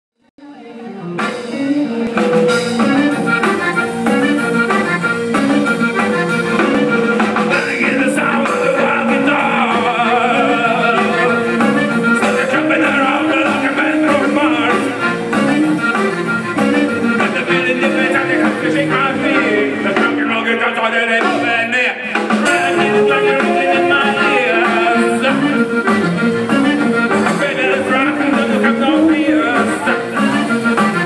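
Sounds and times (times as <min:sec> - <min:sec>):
accordion: 0:00.4 - 0:31.0
person singing: 0:00.4 - 0:31.0
rockabilly band playing: 0:00.5 - 0:31.0.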